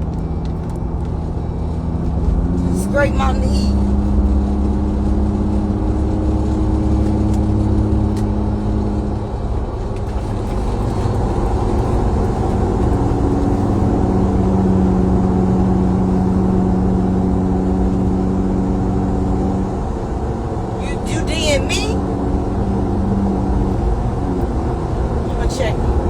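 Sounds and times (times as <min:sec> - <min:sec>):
motor vehicle rumble and hum: 0:00.0 - 0:26.0.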